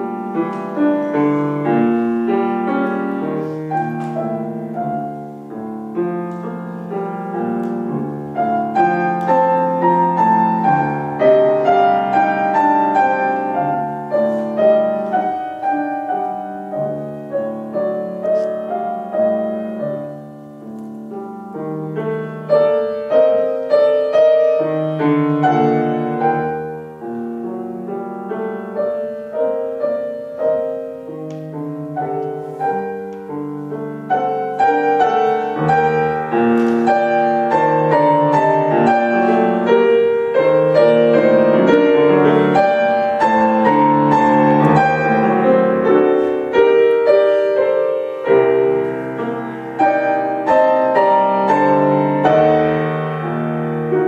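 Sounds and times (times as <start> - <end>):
solo grand piano: 0.0 - 54.0.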